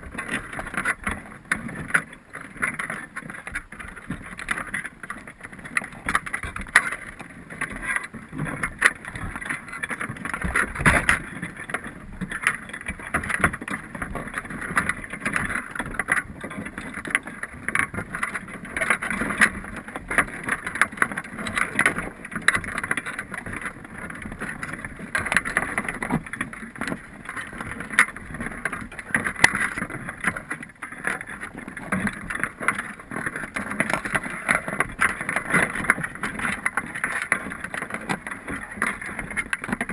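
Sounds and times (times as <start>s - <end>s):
underwater clicks and knocks: 0.0s - 39.9s.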